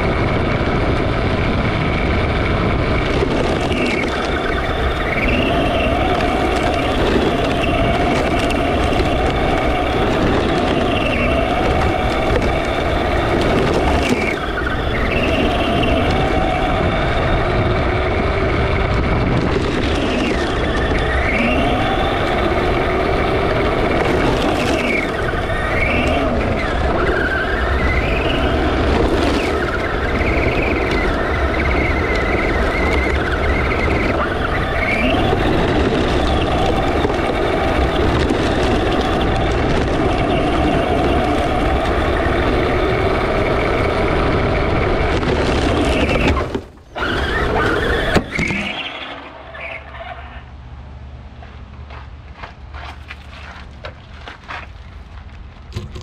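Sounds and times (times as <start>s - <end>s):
rc truck motor whine: 0.0s - 50.6s
tyres crunching on gravel: 1.7s - 50.4s, 51.2s - 56.0s.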